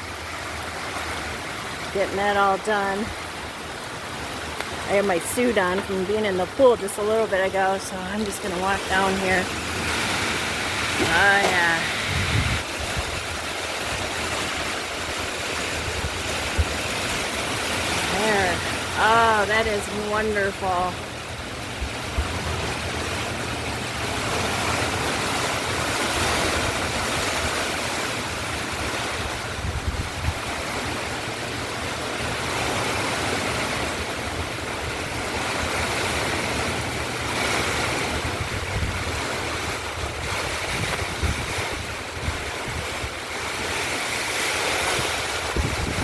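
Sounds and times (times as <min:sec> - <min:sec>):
heavy rain falling: 0:00.0 - 0:46.0
wind buffeting microphone: 0:00.0 - 0:46.0.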